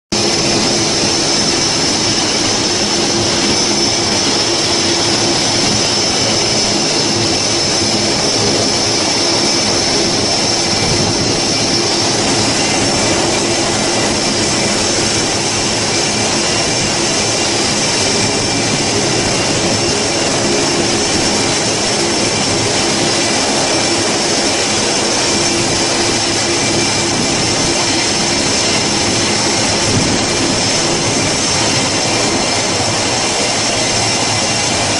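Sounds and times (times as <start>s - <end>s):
turboprop engines droning: 0.1s - 34.9s.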